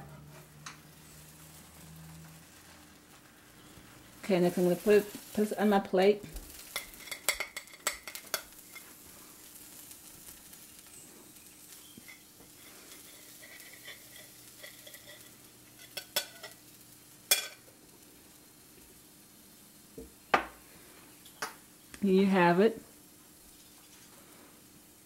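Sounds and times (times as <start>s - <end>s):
faint sizzling in frying pan: 0.0s - 25.0s.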